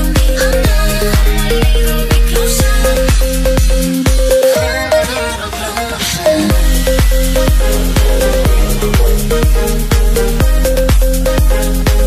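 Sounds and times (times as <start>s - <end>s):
electronic music with steady beat: 0.0s - 12.0s
held synth notes: 0.0s - 12.0s.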